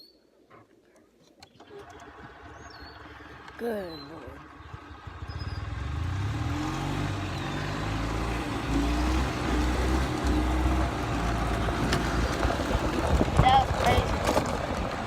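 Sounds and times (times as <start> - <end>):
utility vehicle engine running: 1.4 - 15.0.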